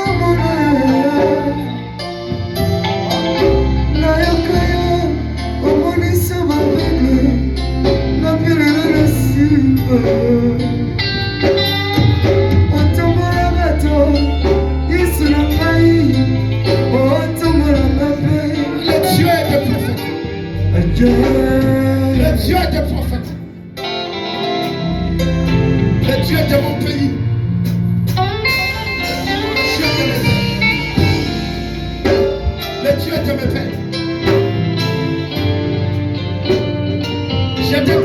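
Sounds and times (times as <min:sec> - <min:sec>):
worship singing: 0:00.0 - 0:11.0, 0:12.6 - 0:27.5, 0:28.6 - 0:36.7, 0:37.5 - 0:38.0
bass notes: 0:00.0 - 0:38.0
guitar accompaniment: 0:00.0 - 0:38.0.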